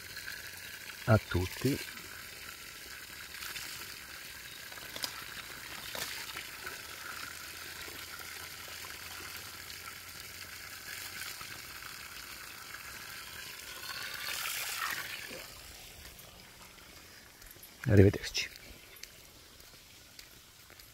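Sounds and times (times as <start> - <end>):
running water hiss: 0.0 - 20.9.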